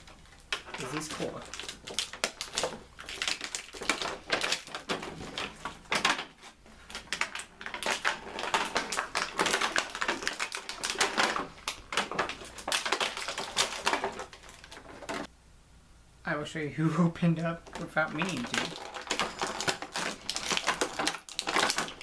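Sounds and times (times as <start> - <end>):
hard plastic clicking and crackling: 0.0 - 15.3, 17.4 - 22.0.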